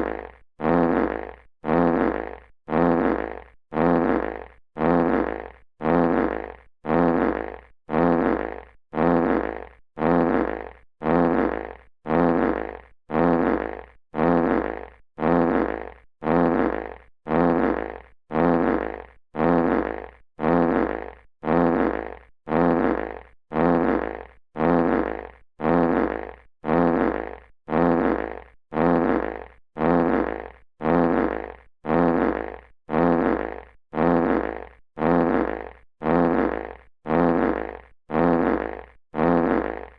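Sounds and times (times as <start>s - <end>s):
fart sound effect: 0.0s - 39.9s.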